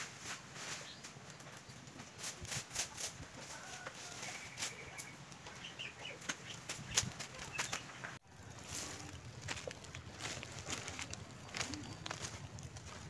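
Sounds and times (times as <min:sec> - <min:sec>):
dry leaves and twigs crackling: 0:00.0 - 0:13.0.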